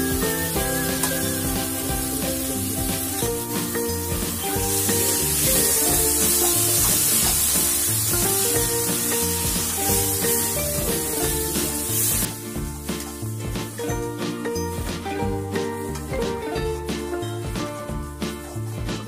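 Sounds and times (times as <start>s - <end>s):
background music: 0.0s - 19.0s
food sizzling in a pan: 0.0s - 19.0s.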